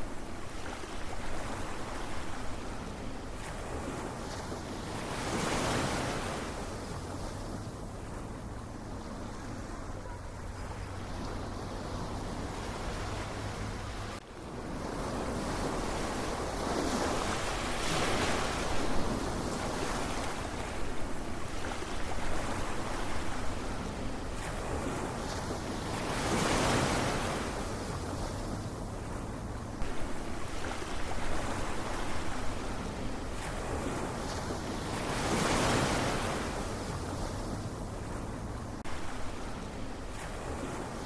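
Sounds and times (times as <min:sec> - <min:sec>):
ocean waves washing: 0:00.0 - 0:41.0.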